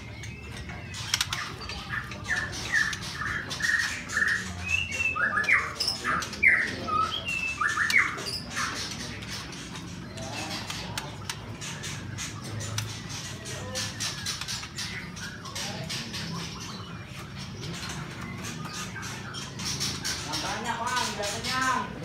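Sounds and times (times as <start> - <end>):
songbirds calling: 0.0 - 22.0.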